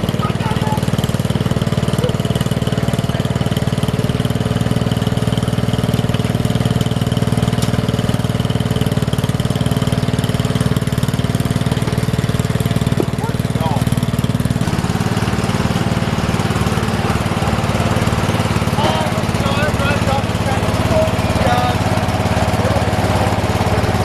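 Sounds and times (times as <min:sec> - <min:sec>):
small tractor engine running: 0:00.0 - 0:24.0.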